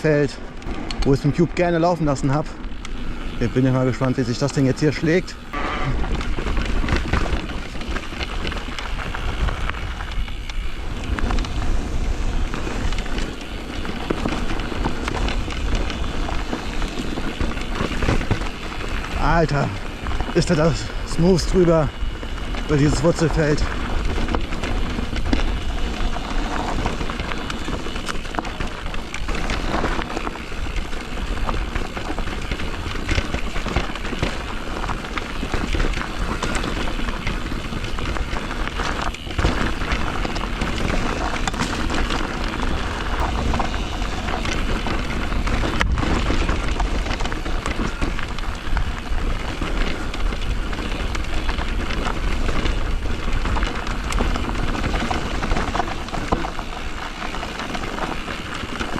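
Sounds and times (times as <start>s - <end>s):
bike clicks and knocks: 0.0s - 58.9s
tyres crunching over roots and stones: 0.0s - 58.9s
wind rushing over microphone: 5.2s - 58.9s.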